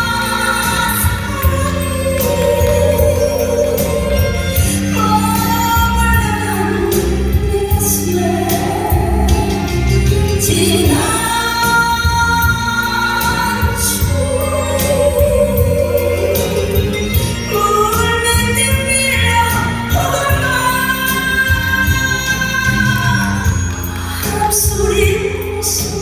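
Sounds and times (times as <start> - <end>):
band accompaniment: 0.0 - 26.0
woman singing a ballad: 0.0 - 26.0.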